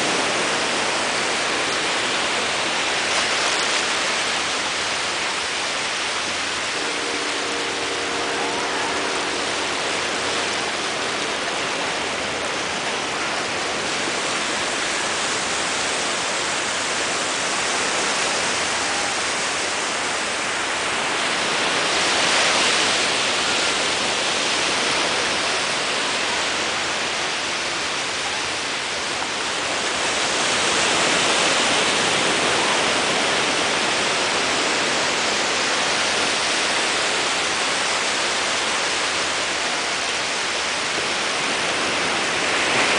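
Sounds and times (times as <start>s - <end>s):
surf waves breaking on beach: 0.0s - 42.9s.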